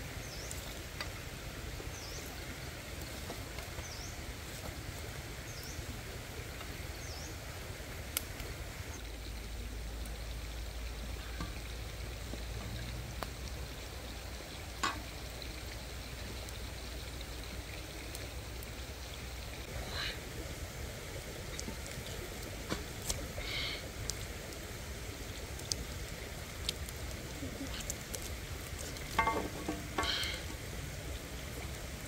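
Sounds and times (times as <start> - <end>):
wood fire hissing: 0.0 - 32.0.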